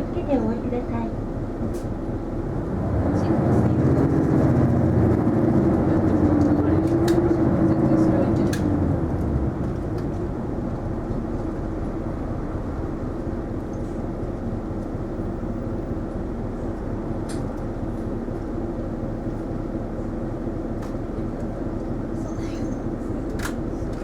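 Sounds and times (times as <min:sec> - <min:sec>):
bus engine hum: 0:00.0 - 0:24.0.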